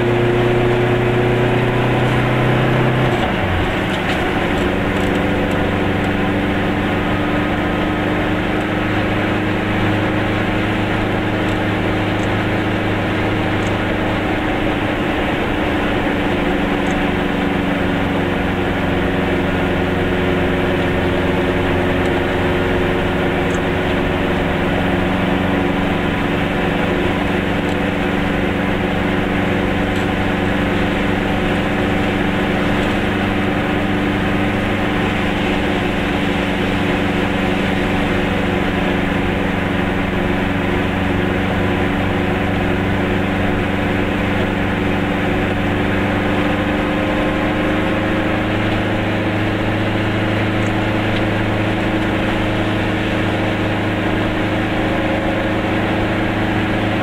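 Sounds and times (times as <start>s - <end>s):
small car engine running: 0.0s - 57.0s.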